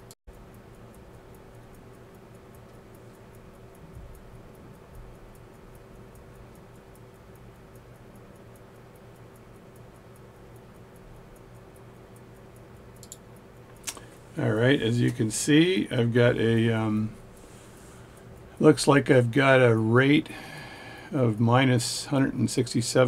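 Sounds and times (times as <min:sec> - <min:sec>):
pocket watch ticking: 0:00.0 - 0:23.0
steady low hum: 0:00.0 - 0:23.0.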